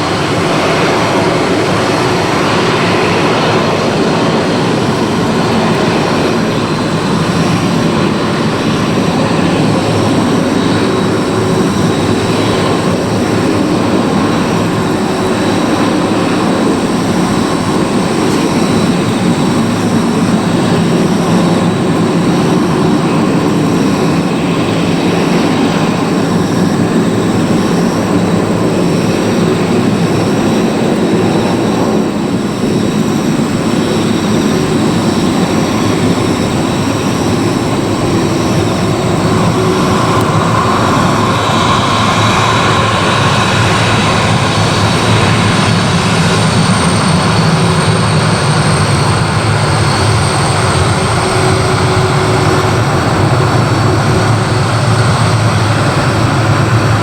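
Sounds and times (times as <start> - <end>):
airliner engines running: 0.0 - 57.0
high engine whine: 0.0 - 57.0.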